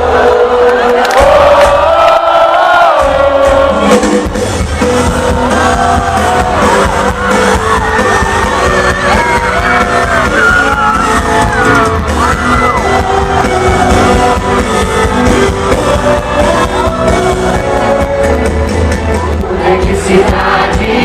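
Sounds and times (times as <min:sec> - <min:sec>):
crowd shouts and whoops: 0:00.0 - 0:04.0, 0:04.6 - 0:19.5
live band with singing: 0:00.0 - 0:21.0.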